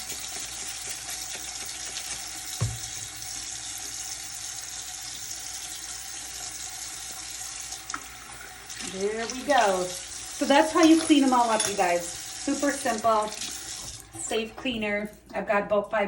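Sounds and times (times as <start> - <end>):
tap water running into sink: 0.0 - 14.8.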